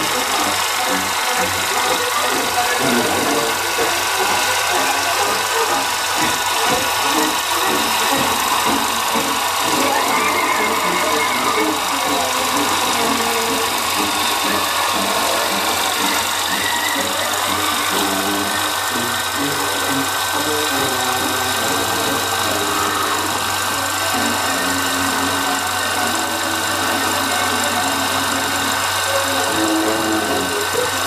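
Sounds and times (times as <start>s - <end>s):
film projector whirring: 0.0s - 31.0s
music from a speaker: 0.0s - 31.0s.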